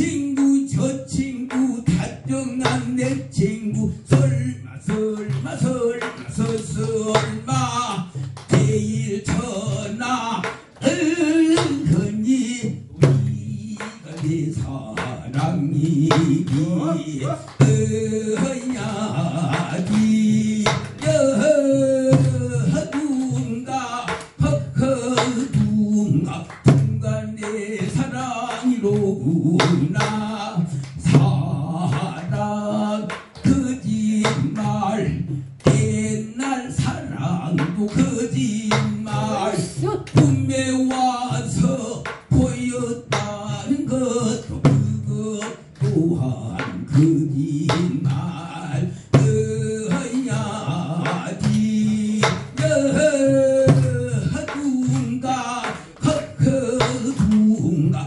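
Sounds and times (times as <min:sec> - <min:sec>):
man singing with heavy vibrato: 0:00.0 - 0:58.0.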